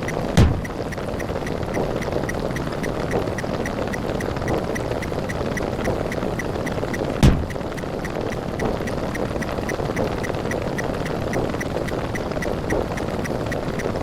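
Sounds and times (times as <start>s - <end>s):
faint rapid ticks: 0.0s - 14.0s.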